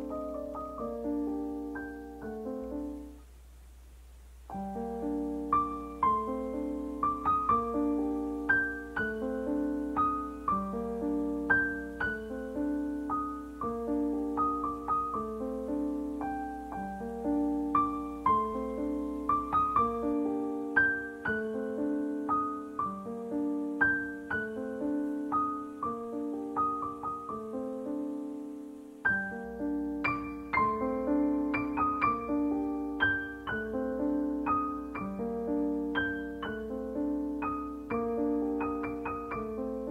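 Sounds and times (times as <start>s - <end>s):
slow gentle piano piece: 0.0s - 39.9s.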